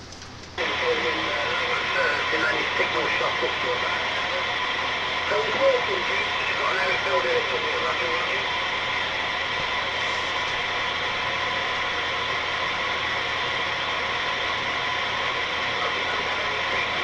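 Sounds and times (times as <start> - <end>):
radio static hiss: 0.6 - 17.0.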